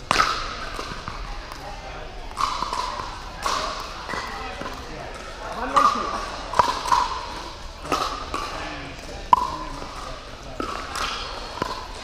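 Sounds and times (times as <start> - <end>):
paddles striking pickleball: 0.0 - 1.7, 2.3 - 12.0.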